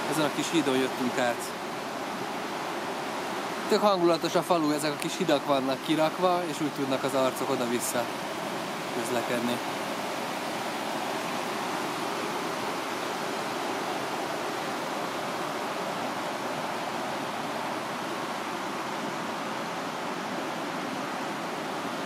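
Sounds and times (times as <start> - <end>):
water rushing over rapids: 0.0 - 22.0.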